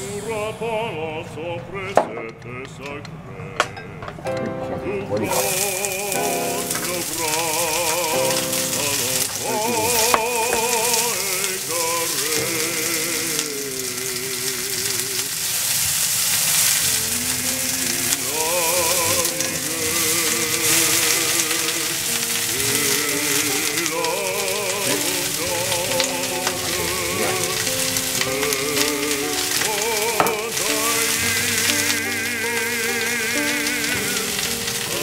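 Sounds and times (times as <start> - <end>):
background music with held notes: 3.8 - 14.2, 16.6 - 35.0
food sizzling in a frying pan: 5.2 - 35.0.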